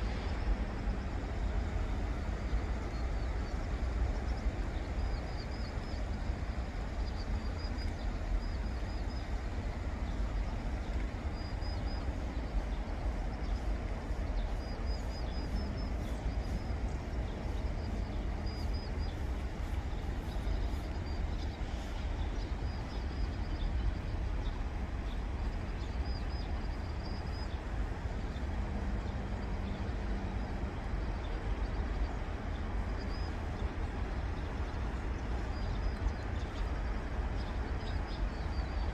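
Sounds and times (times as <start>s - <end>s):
outdoor rumble and hiss: 0.0s - 38.9s.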